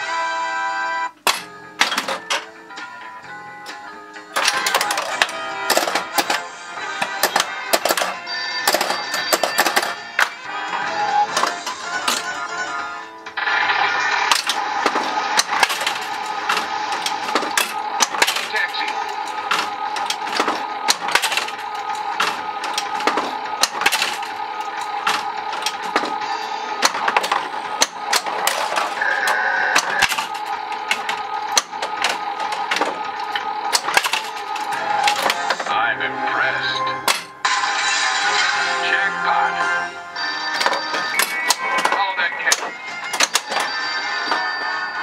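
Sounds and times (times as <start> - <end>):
pinball electronic music and effects: 0.0 - 45.0
flippers and solenoids clacking: 1.2 - 3.0, 3.6 - 12.4, 14.2 - 35.8, 36.9 - 37.4, 40.5 - 44.8.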